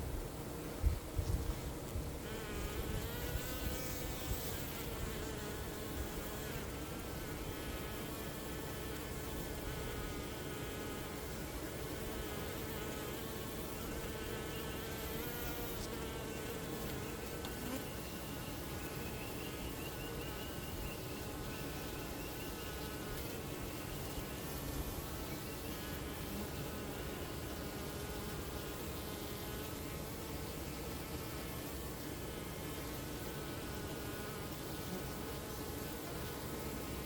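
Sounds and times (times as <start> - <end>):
honeybees buzzing: 0.1 - 37.0.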